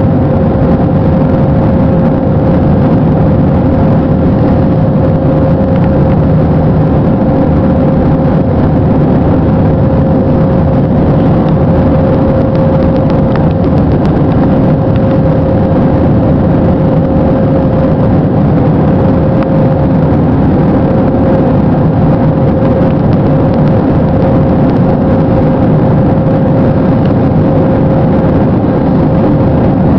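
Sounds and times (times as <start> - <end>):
jet engines droning: 0.0 - 29.9
mid-pitched hum: 0.0 - 29.9.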